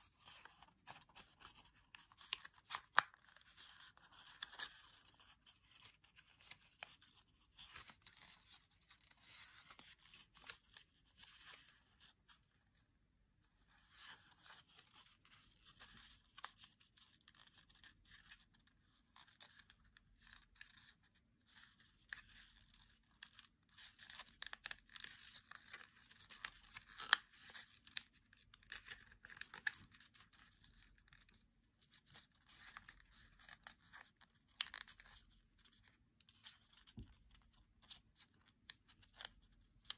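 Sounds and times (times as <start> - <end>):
paper crinkling and rustling: 0.0 - 12.6, 13.7 - 39.9.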